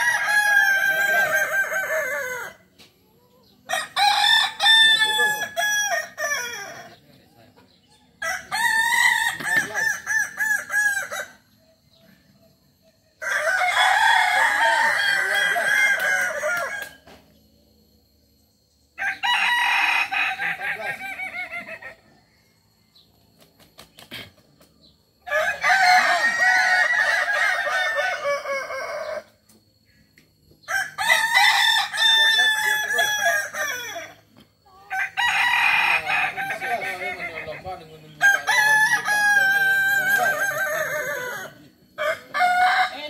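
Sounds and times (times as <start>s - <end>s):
roosters crowing: 0.0s - 12.1s, 13.2s - 17.4s, 18.8s - 43.0s.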